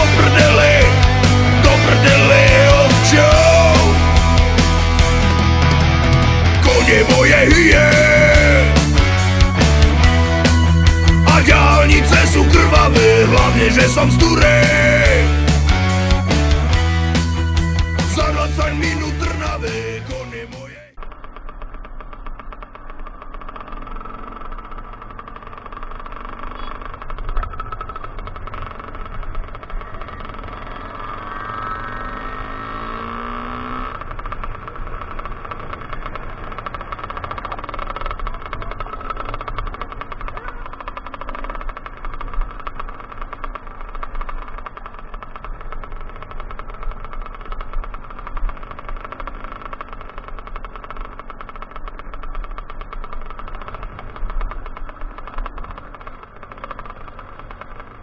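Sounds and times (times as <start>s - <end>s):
two-stroke motorbike engine: 0.0s - 58.0s.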